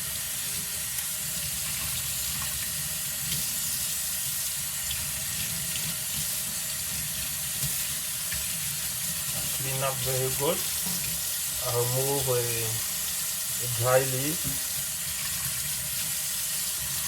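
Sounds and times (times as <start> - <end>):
water running from a tap: 0.0 - 17.0.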